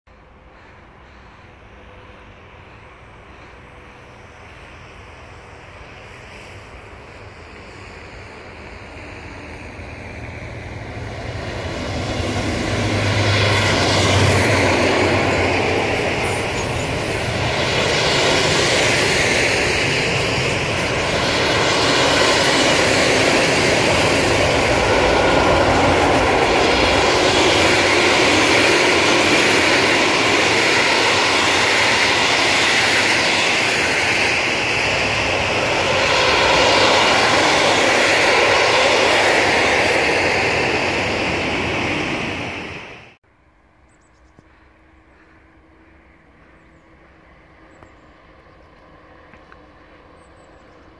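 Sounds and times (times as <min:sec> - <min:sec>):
freight train passing: 0:00.1 - 0:50.9.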